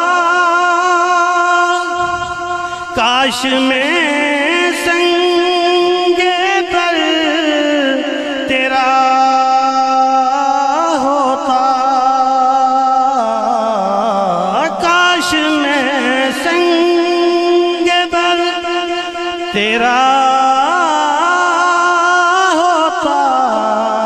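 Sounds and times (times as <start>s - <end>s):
man singing into microphone: 0.0s - 24.0s.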